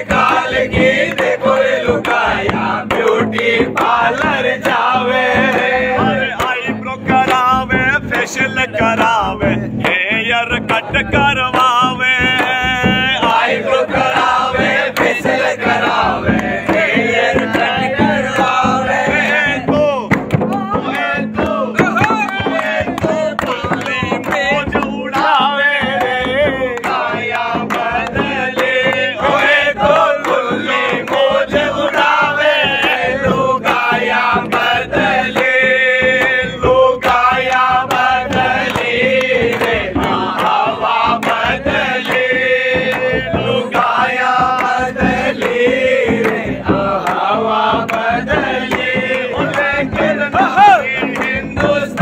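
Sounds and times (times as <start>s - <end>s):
hand-struck percussion beat: 0.0s - 52.0s
men singing in chorus: 0.0s - 52.0s.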